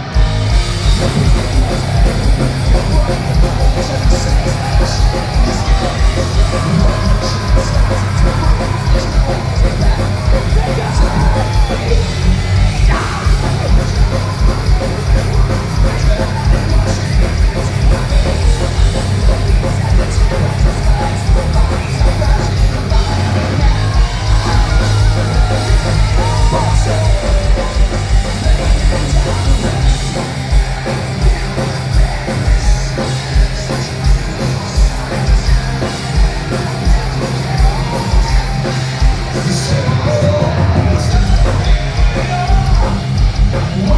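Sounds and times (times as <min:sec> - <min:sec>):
distorted guitars: 0:00.0 - 0:43.9
drums with rapid kick-drum beats: 0:00.0 - 0:43.9
yelled vocals: 0:00.0 - 0:43.9.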